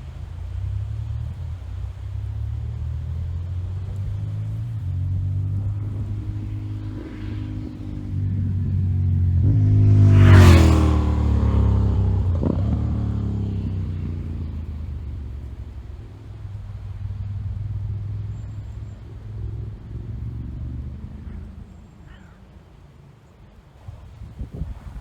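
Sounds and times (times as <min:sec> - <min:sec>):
motorcycle passing at speed: 0:00.0 - 0:25.0.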